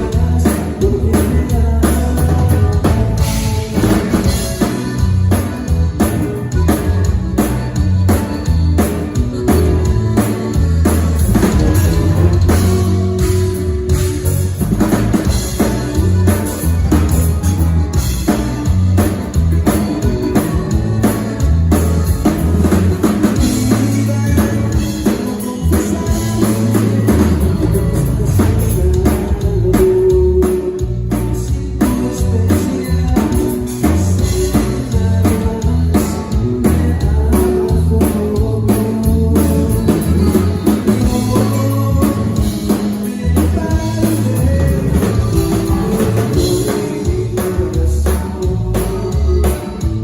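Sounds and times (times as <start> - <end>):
bass guitar: 0.0 - 50.0
drum kit: 0.0 - 50.0
electric guitar: 0.0 - 50.0.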